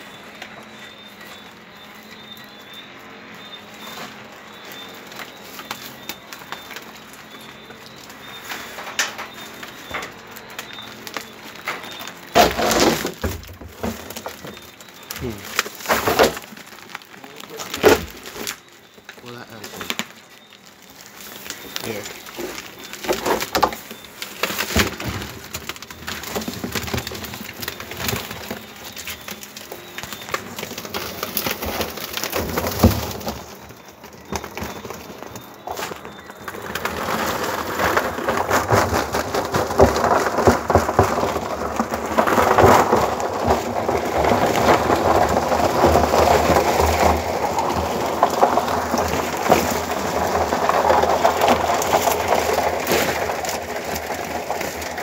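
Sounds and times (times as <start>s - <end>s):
crab shells clattering on plastic: 2.1s - 55.0s.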